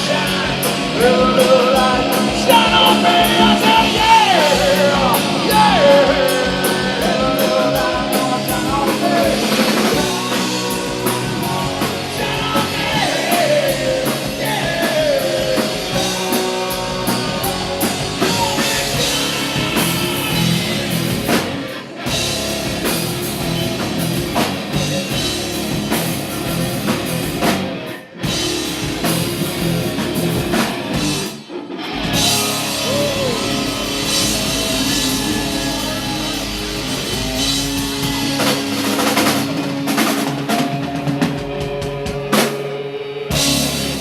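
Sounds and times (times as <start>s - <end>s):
rock band playing live: 0.0s - 44.0s.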